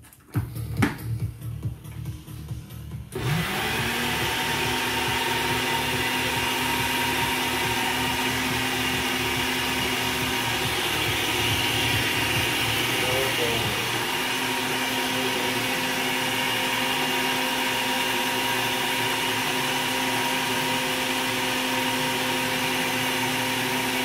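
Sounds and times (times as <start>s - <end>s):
blender motor running: 3.1s - 24.0s.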